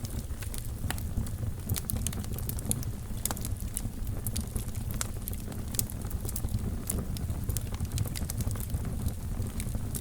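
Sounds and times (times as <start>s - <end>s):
fire crackling and popping: 0.0s - 10.0s
low rumble of flames: 0.0s - 10.0s.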